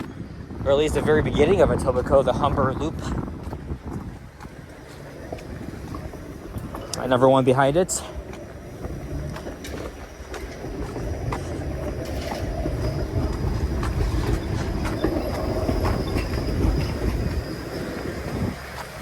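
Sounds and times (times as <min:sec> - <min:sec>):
streetcar passing on rails: 0:00.0 - 0:19.0
wheels clicking over track: 0:00.0 - 0:19.0.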